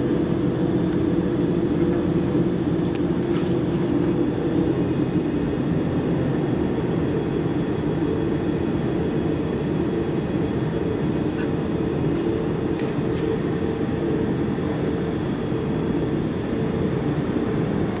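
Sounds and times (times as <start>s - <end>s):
low machine hum and rumble: 0.0s - 18.0s.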